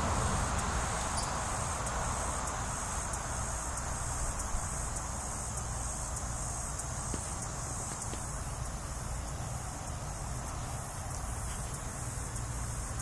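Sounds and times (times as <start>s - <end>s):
faint regular ticking: 0.5s - 13.0s.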